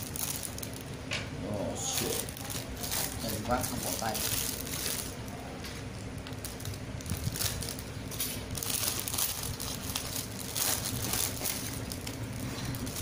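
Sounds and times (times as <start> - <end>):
packaging crinkling: 0.0 - 1.0, 1.6 - 13.0.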